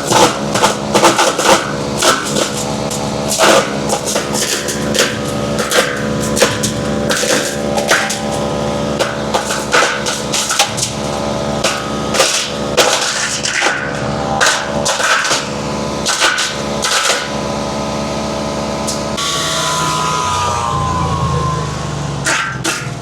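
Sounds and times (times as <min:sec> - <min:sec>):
wood chipper running under load: 0:00.0 - 0:23.0.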